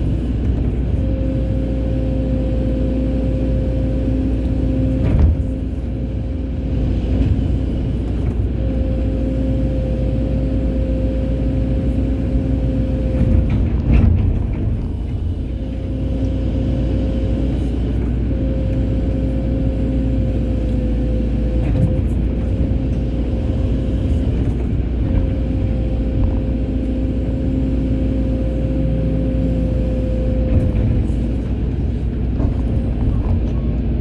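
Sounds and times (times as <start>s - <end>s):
excavator diesel engine rumble: 0.0s - 34.0s
hydraulic whine: 0.0s - 34.0s.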